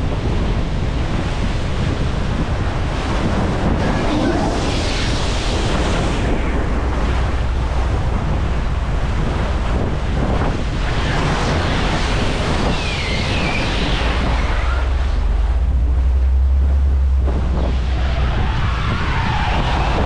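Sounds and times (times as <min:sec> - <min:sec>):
steady low rumble: 0:00.0 - 0:20.0
water rushing along hulls: 0:00.0 - 0:20.0
wind buffeting microphone: 0:00.0 - 0:20.0.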